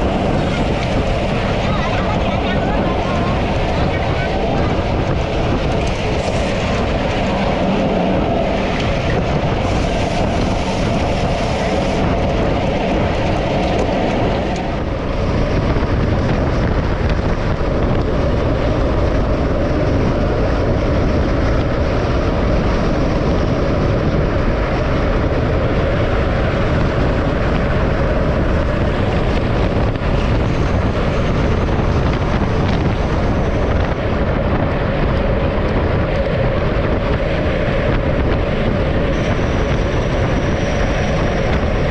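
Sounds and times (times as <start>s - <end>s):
road noise: 0.0s - 41.9s
wind on microphone: 0.0s - 41.9s.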